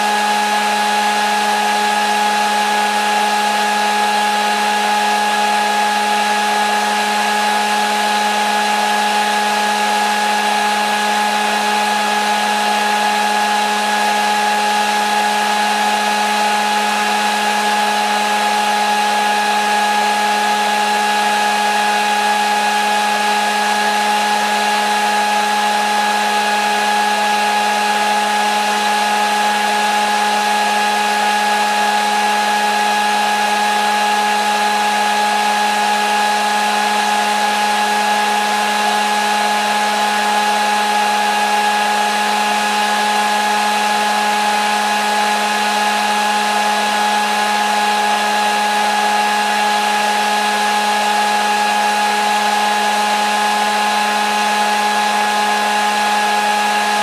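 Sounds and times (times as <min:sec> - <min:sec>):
hair dryer blowing air: 0:00.0 - 0:57.0.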